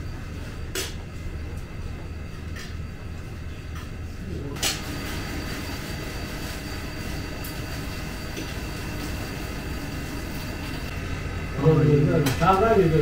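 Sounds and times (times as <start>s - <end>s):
steady machine drone: 0.0s - 13.0s.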